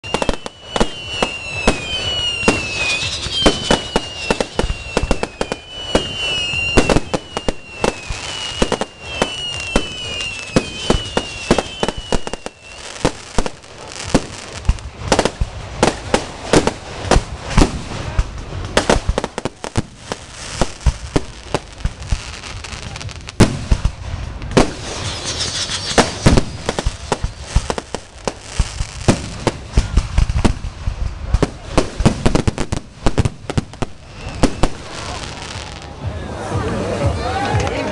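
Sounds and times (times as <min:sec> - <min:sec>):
fireworks whistles: 0:00.0 - 0:36.0
fireworks bangs and crackles: 0:00.0 - 0:37.9.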